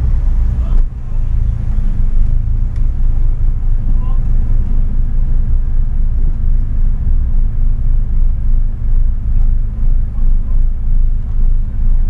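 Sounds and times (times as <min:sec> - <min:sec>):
car engine drone inside cabin: 0:00.0 - 0:12.0
road noise: 0:00.0 - 0:12.0.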